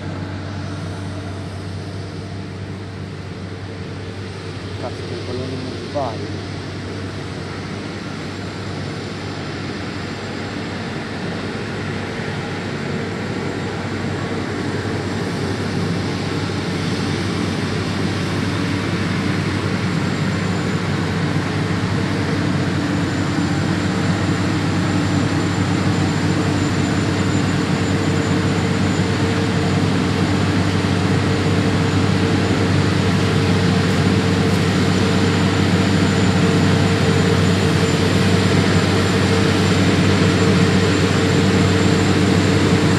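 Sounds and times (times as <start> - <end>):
combine harvester engine: 0.0 - 42.9.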